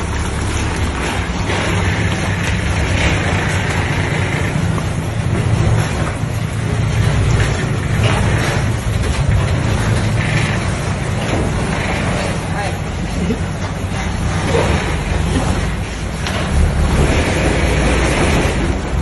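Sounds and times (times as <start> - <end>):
truck diesel engine rumbling: 0.0 - 19.0.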